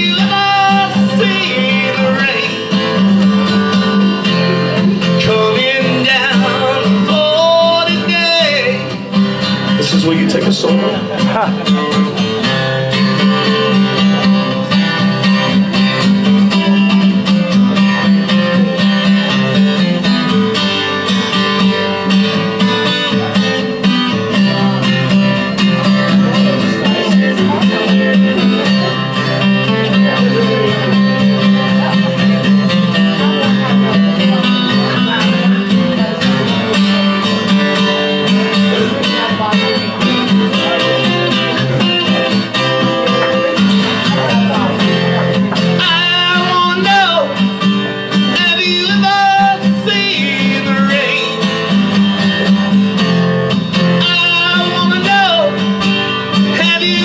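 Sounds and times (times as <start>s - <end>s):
guitar solo: 0.0s - 57.0s
strummed acoustic guitar: 0.0s - 57.0s.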